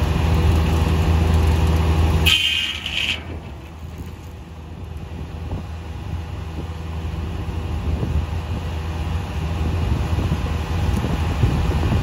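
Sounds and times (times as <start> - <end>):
sawmill mechanical hum: 0.0 - 12.0.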